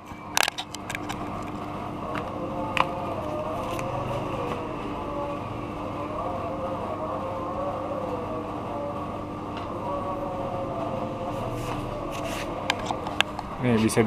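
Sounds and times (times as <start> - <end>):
mechanical drone with wavering tones: 0.0 - 14.0.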